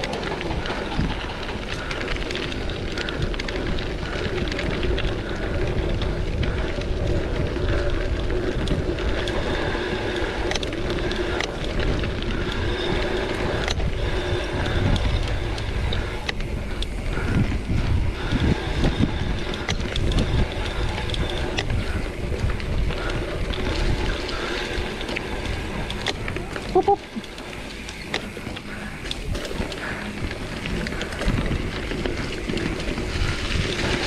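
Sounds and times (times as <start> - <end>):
bike rattling and clicking: 0.0 - 34.0
bike tyres on dirt trail: 0.0 - 34.0.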